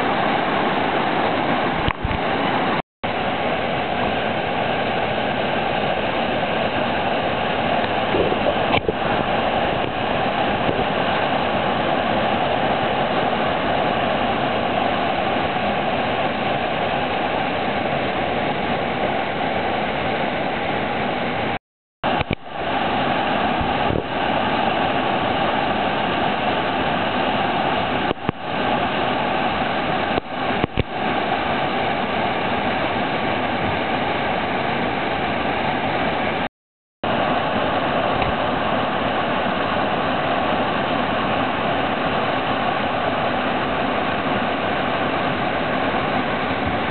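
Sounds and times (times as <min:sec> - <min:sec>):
roar of rushing water: 0:00.0 - 0:46.9.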